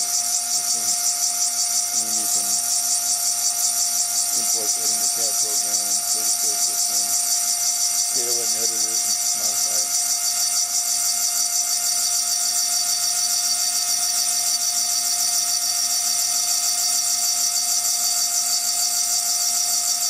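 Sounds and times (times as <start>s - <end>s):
milling spindle high-pitched whine: 0.0s - 20.0s.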